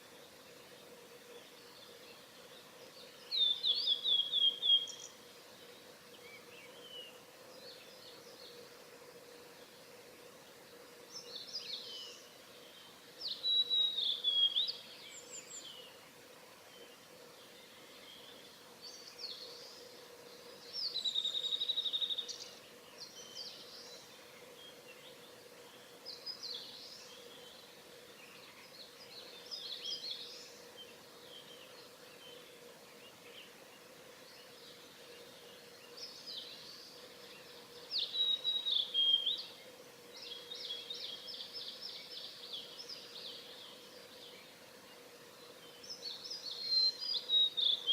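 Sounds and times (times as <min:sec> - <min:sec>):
faint low hum: 0:00.0 - 0:47.9.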